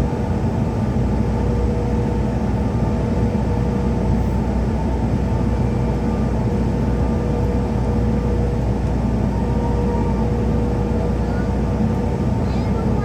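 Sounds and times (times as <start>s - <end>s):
jet engines humming at low power: 0.0s - 13.0s.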